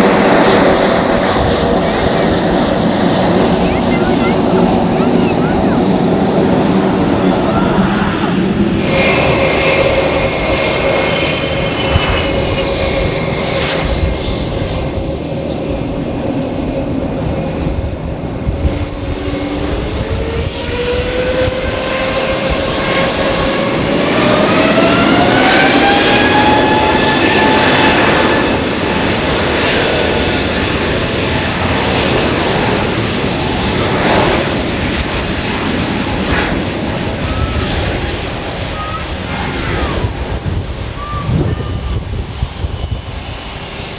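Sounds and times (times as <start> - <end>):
aircraft engines spooling up: 0.0 - 43.9.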